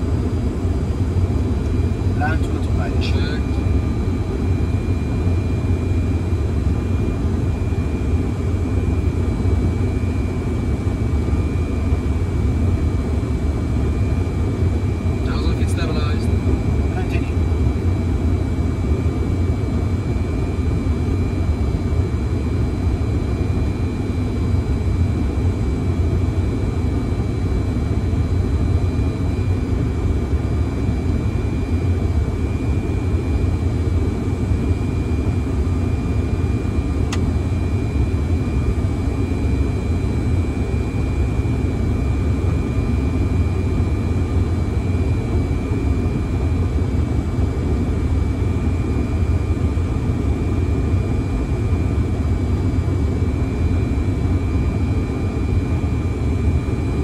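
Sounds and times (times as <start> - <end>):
low rumble of airflow and engines: 0.0 - 57.0
thin steady whine: 0.0 - 57.0.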